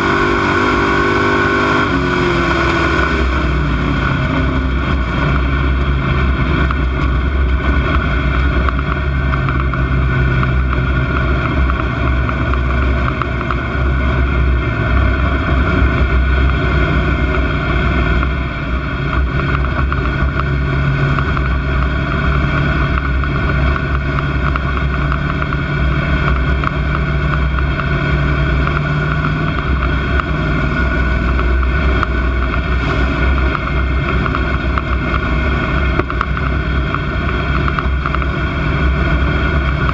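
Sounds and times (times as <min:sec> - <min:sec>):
race car engine drone: 0:00.0 - 0:39.9.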